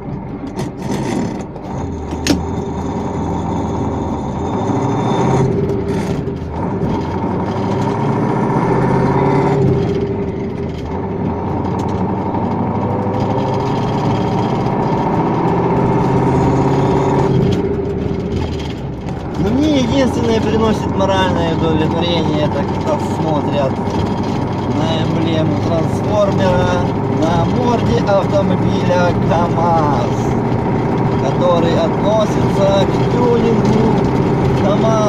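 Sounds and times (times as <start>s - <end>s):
diesel truck engine revving: 0.0s - 35.0s.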